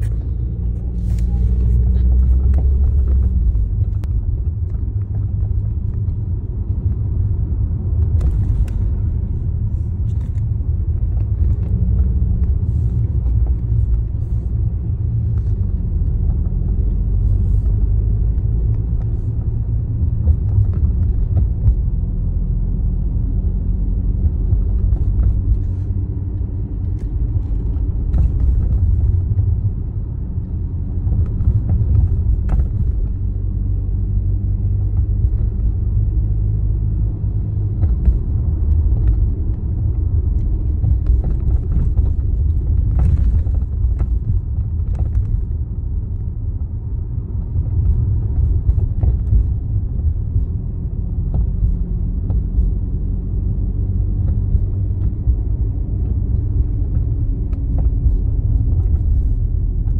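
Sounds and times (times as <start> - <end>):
road rumble inside car: 0.0 - 59.9.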